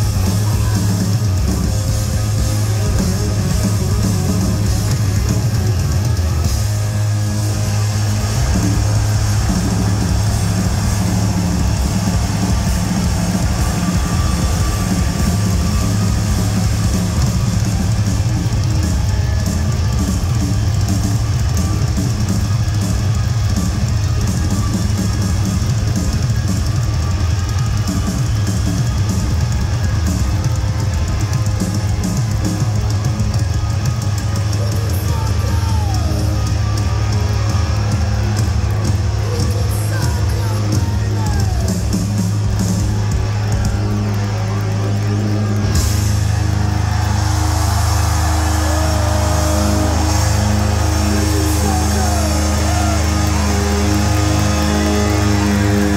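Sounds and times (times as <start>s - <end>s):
booming bass: 0.0s - 34.7s, 41.2s - 55.9s
drums: 0.0s - 55.9s
live heavy rock band: 0.0s - 55.9s.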